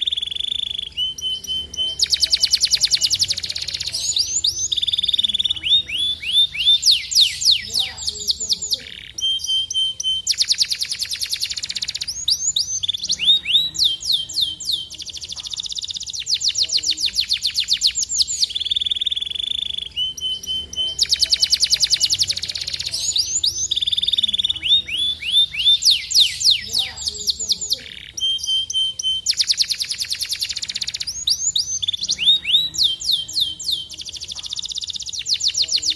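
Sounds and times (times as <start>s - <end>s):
canary singing: 0.0s - 35.9s.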